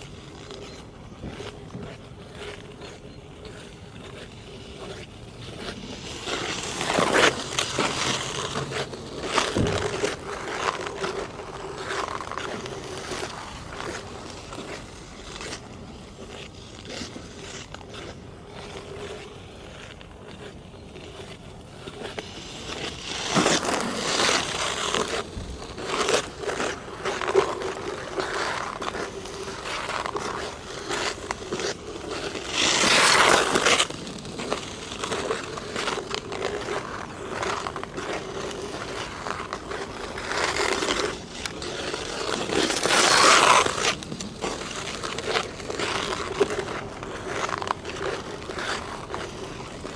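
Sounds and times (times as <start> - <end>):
ice skate blades scraping ice: 0.0 - 49.9.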